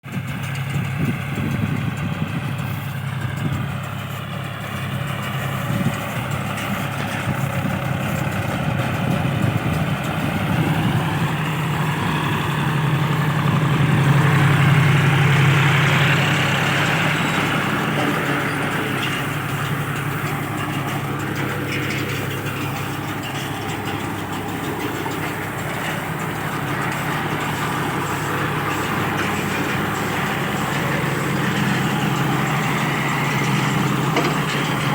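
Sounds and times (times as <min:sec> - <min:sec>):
tractor engine droning: 0:00.0 - 0:34.9.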